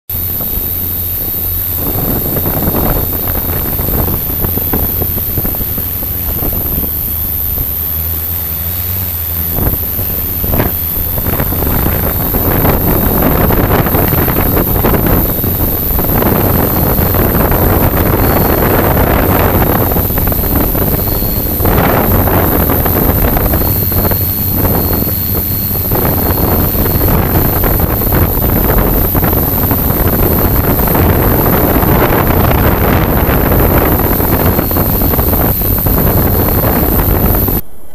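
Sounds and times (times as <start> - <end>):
drone motors humming with whine: 0.0 - 37.9
wind buffeting microphone: 0.1 - 37.9.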